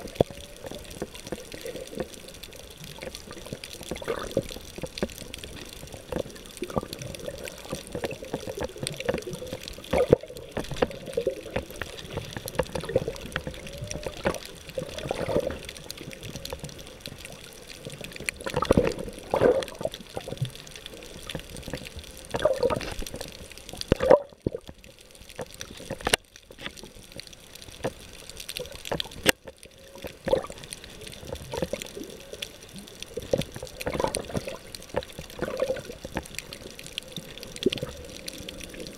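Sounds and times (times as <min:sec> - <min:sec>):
underwater clicks and crackles: 0:00.0 - 0:38.9
water swishing and gurgling: 0:00.0 - 0:38.9.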